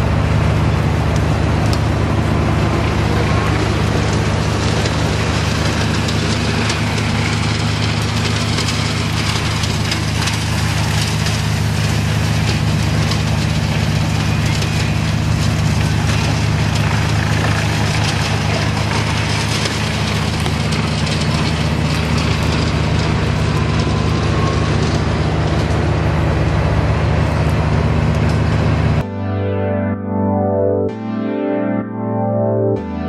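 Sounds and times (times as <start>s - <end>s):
branches crackling in chipper: 0.0s - 29.0s
wood chipper engine hum: 0.0s - 29.1s.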